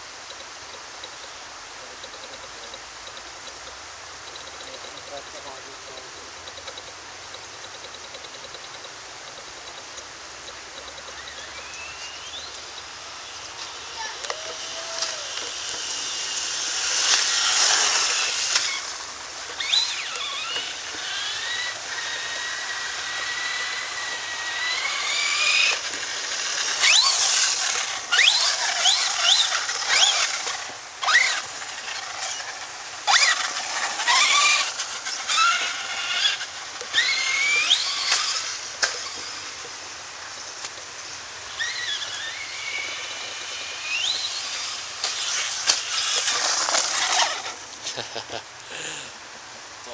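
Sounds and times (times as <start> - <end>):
toy truck electric motor whining: 0.2 - 49.9.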